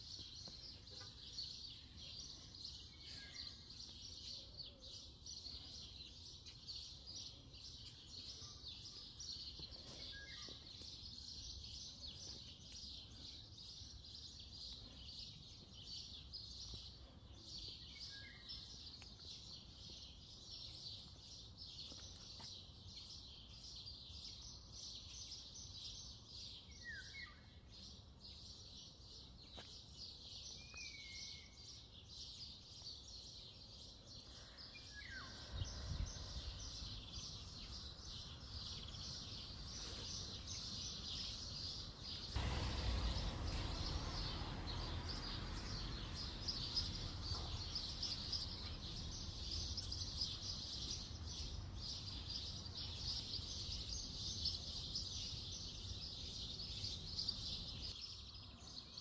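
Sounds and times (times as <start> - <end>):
birds twittering chorus: 0.0 - 59.0.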